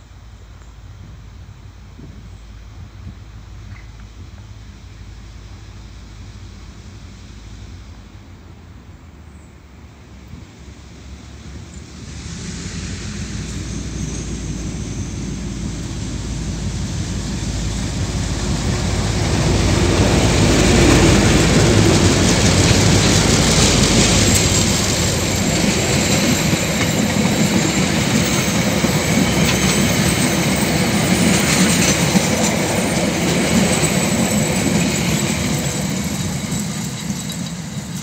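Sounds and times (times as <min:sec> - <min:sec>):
diesel locomotives passing: 0:00.0 - 0:38.0
wheels rumbling on rails: 0:00.0 - 0:38.0.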